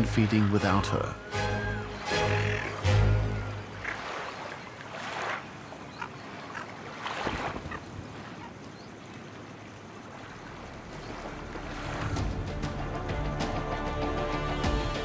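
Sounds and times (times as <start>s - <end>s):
shallow water splashing and lapping: 0.0s - 12.9s.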